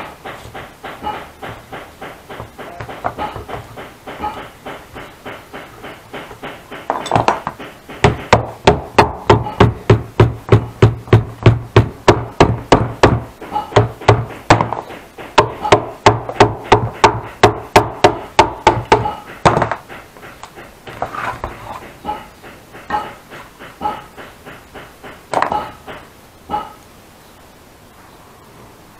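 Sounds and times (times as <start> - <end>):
hammer blows on metal: 0.0 - 20.8, 21.8 - 26.8.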